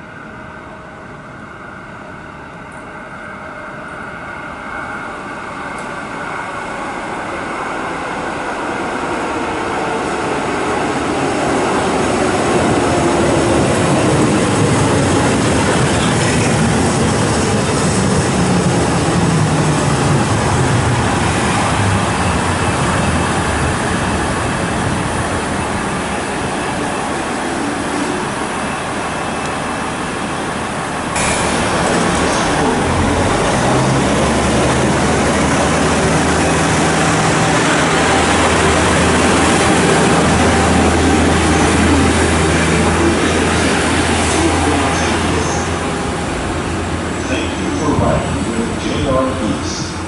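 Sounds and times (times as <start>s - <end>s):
train passing close by: 0.0s - 50.0s
train wheels rolling on rails: 6.7s - 50.0s.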